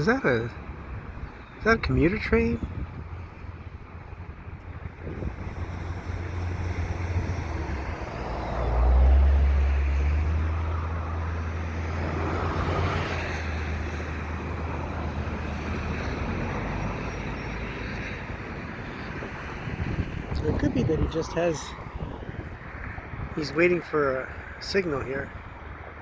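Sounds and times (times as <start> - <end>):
diesel engine rumble: 0.0 - 26.0
traffic noise: 0.0 - 26.0
wind: 0.0 - 26.0.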